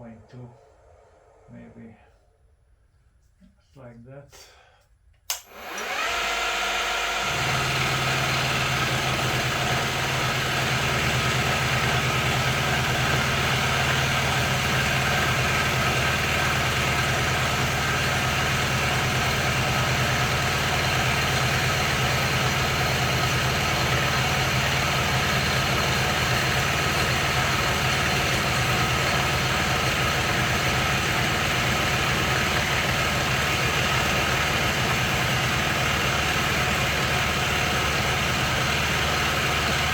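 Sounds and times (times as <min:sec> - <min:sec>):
milling machine running: 0:05.3 - 0:39.9.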